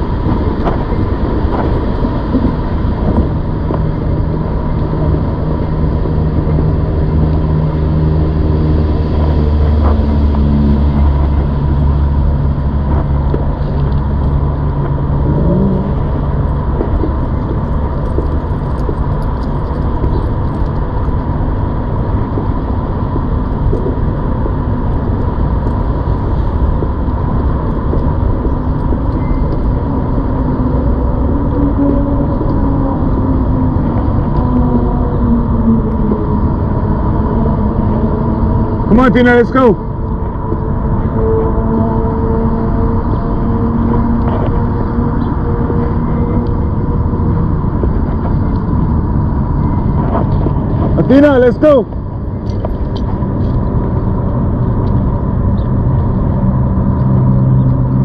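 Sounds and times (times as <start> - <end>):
low engine drone: 0.0 - 58.0
motor traffic rumble: 0.0 - 58.0.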